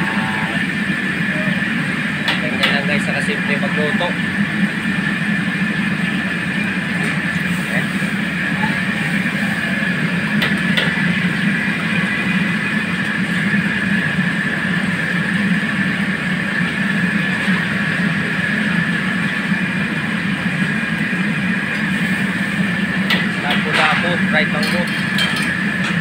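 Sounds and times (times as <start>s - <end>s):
gas burner roaring: 0.0s - 26.0s
high whine: 0.0s - 26.0s.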